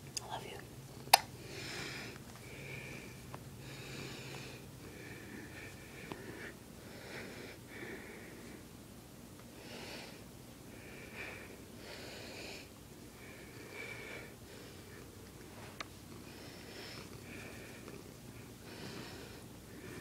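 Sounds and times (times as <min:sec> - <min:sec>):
sniffs and wheezy breaths: 0:01.4 - 0:08.7, 0:09.5 - 0:20.0.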